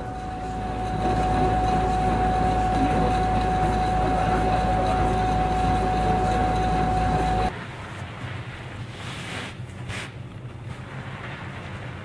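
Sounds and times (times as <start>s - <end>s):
mechanical hum with high tone: 0.0s - 12.0s.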